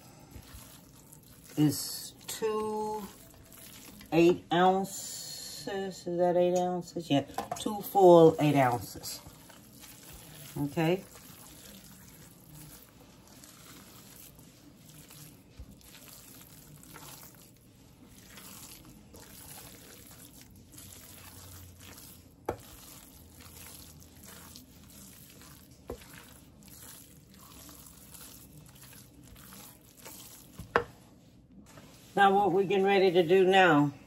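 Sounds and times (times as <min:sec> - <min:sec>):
wet mixing sound: 0:00.0 - 0:34.0.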